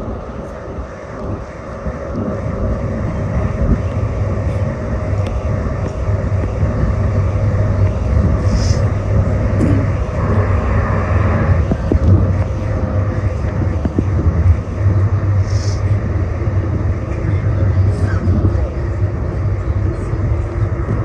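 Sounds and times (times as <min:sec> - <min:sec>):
light-rail car running on tracks: 0:00.0 - 0:21.0.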